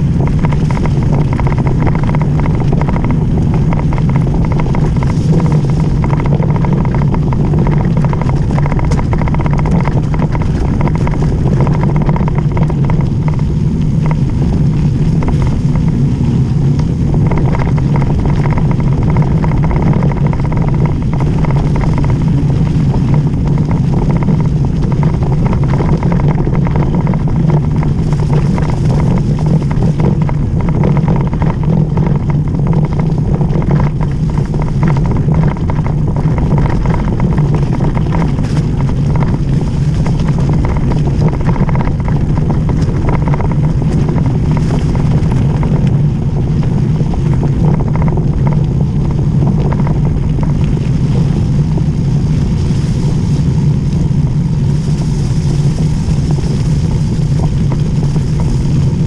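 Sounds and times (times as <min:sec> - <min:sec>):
bike knocks and rattles: 0:00.0 - 0:52.7
tyre rumble on wet gravel: 0:00.0 - 0:59.0
wind buffeting microphone: 0:00.0 - 0:59.0.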